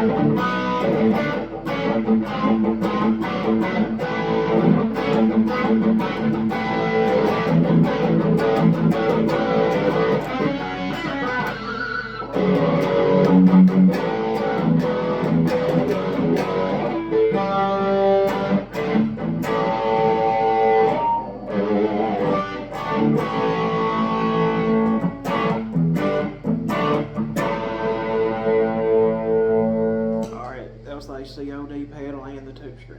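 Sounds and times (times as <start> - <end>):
overdriven electric guitar: 0.0 - 30.4.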